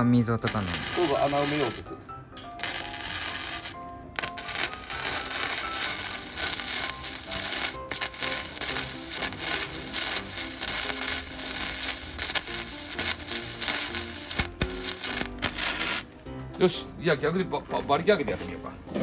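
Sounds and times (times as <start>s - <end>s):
welding arc crackling and sizzling: 0.0s - 16.8s.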